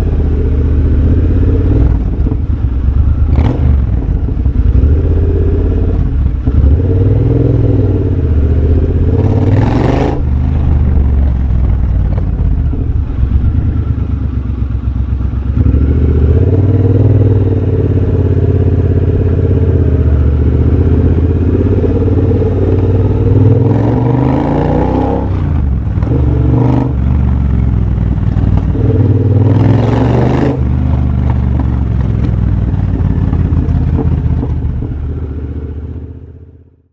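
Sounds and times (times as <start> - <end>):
motorcycle engine while riding: 0.0 - 36.9.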